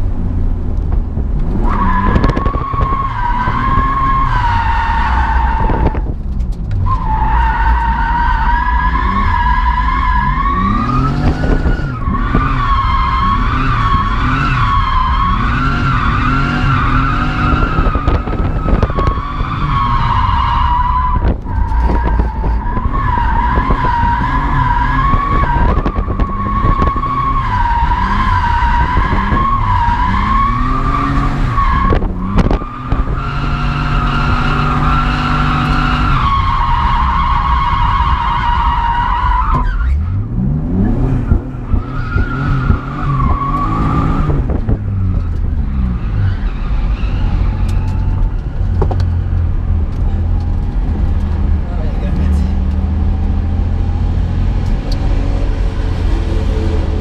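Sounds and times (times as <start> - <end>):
car engine revving: 0.0 - 57.0
car tyres squealing: 1.4 - 57.0.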